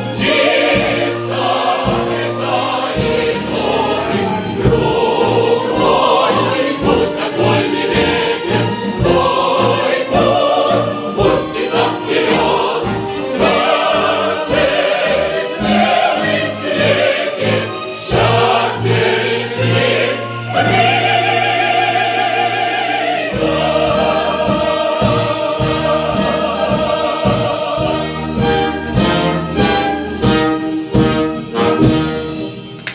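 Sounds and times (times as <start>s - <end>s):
choir singing: 0.0s - 32.1s.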